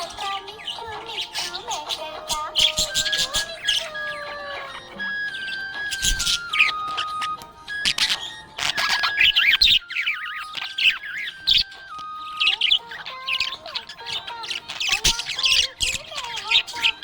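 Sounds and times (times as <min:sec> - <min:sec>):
background melody: 0:00.0 - 0:17.0
budgerigars chirping and warbling: 0:00.0 - 0:17.0.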